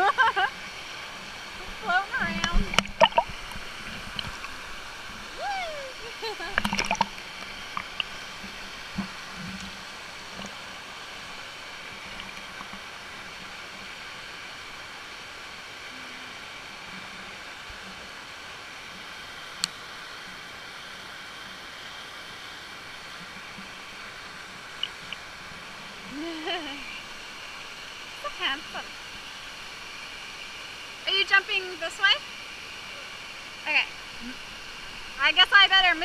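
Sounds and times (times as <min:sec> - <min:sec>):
waterfalls pouring into pool: 0:00.0 - 0:36.0.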